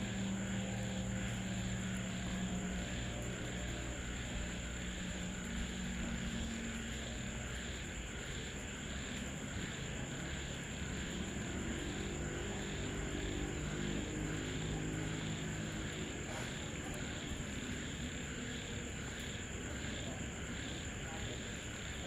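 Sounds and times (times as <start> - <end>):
faint low locomotive drone: 0.0 - 22.0
insects and crickets chirping: 0.0 - 22.0.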